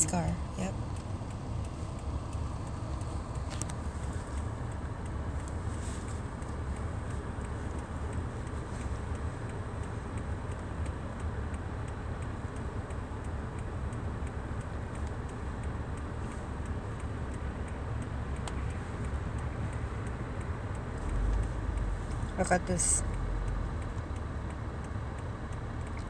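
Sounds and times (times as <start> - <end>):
car engine and tyre rumble: 0.0 - 26.0
faint ticking: 0.0 - 26.0.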